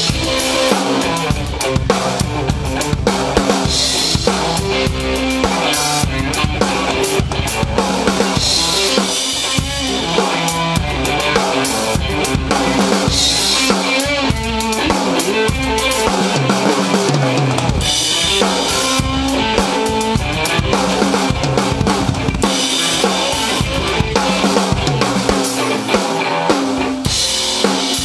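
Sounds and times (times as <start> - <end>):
drum kit playing: 0.0 - 28.0
electric guitar notes: 0.0 - 28.0.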